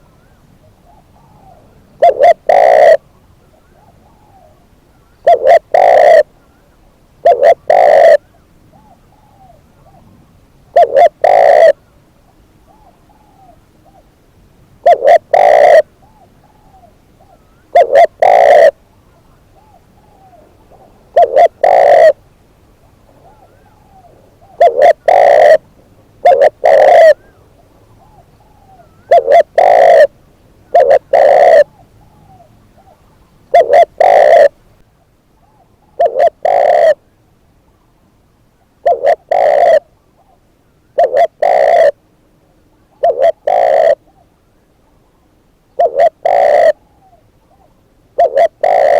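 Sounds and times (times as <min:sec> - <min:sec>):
dove cooing: 0:00.0 - 0:14.2, 0:14.8 - 0:22.2, 0:22.8 - 0:34.7, 0:35.4 - 0:37.1, 0:38.8 - 0:40.4, 0:41.0 - 0:42.1, 0:42.8 - 0:44.3, 0:45.7 - 0:48.9.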